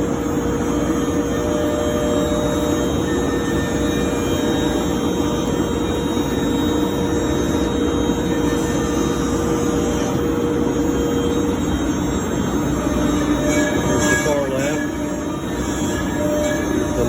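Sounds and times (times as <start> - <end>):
high spindle whine: 0.0 - 17.0
router cutting wood: 0.0 - 17.0.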